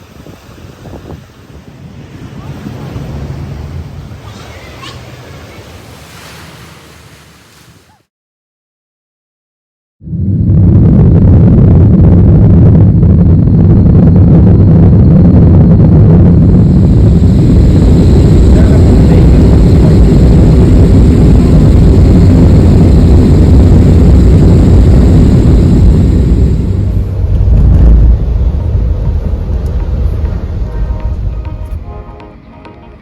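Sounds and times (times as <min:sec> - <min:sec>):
aircraft rumble: 0:00.0 - 0:08.0, 0:10.0 - 0:33.0.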